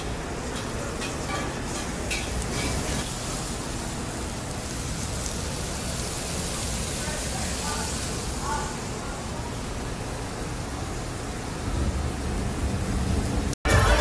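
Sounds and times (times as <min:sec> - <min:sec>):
beef sizzling on grill: 0:00.0 - 0:13.8.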